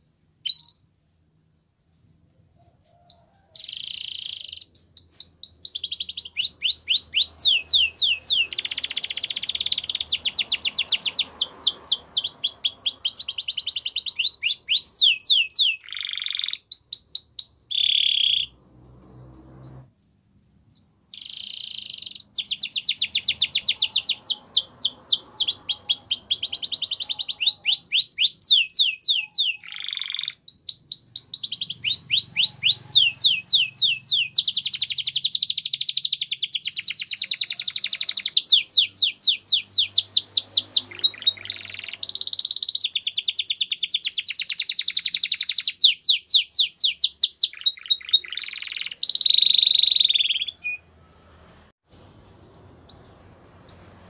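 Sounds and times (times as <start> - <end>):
canary singing trills: 1.6 - 19.8, 20.7 - 51.0, 52.9 - 54.0.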